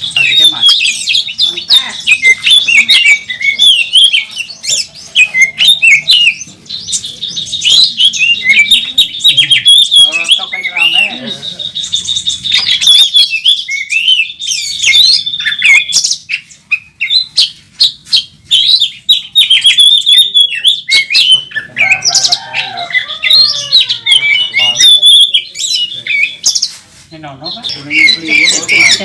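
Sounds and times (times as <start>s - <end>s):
bird singing whistles and trills: 0.0s - 26.7s.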